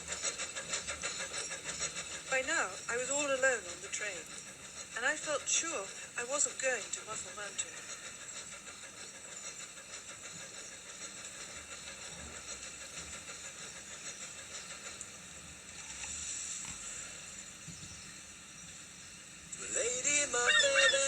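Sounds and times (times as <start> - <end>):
moving train hissing rush: 0.0 - 21.0.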